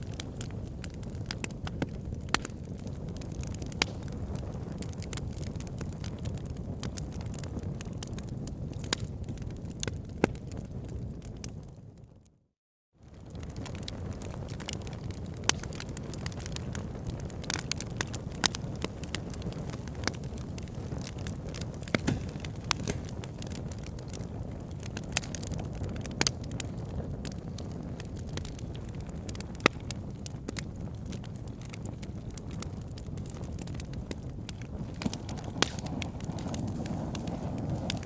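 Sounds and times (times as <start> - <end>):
sharp pops from fire: 0.0 - 10.7, 13.2 - 38.0
burning logs crackling: 0.0 - 12.0, 13.0 - 38.0
low rumble of flames: 0.0 - 12.3, 13.0 - 38.0.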